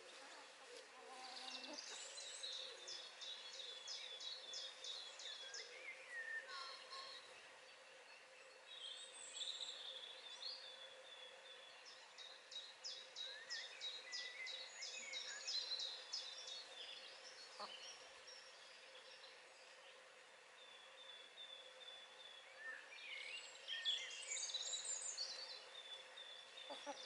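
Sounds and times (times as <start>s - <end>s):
songbirds singing: 0.0s - 27.0s.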